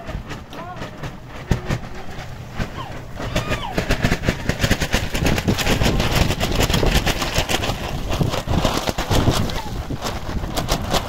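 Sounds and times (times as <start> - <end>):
rain drumming on a covering: 0.0 - 11.0.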